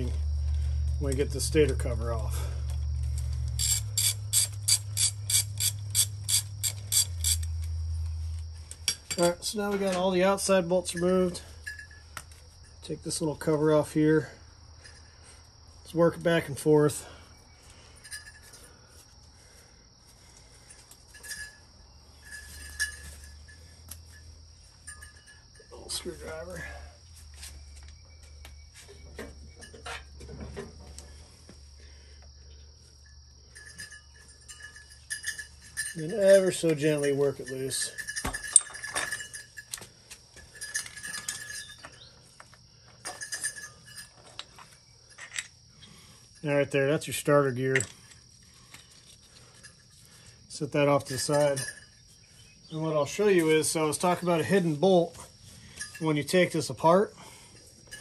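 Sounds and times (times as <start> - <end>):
metallic clinks of engine parts: 0.0 - 15.4, 16.1 - 19.3, 19.9 - 58.0.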